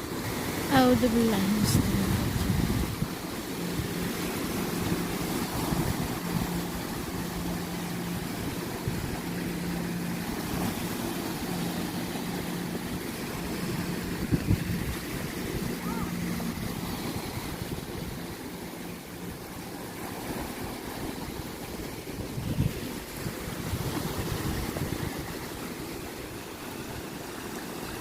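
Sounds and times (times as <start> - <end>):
low engine-like hum: 0.0 - 28.0
sea water: 0.0 - 28.0
wind: 0.0 - 28.0.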